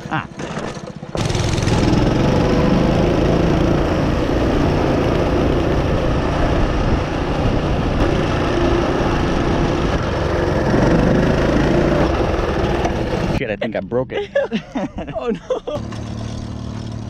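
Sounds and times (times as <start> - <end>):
small gas engine running: 0.0 - 13.9, 15.7 - 17.0.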